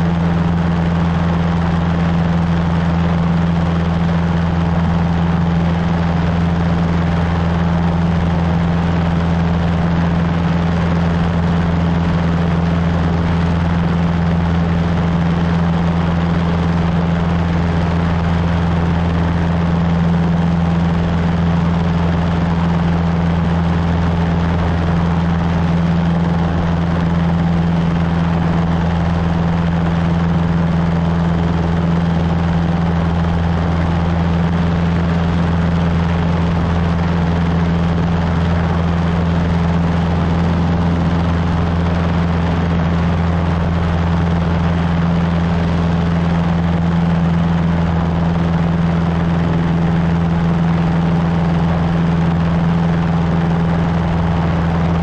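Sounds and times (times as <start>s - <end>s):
airplane engine droning in flight: 0.0s - 55.0s.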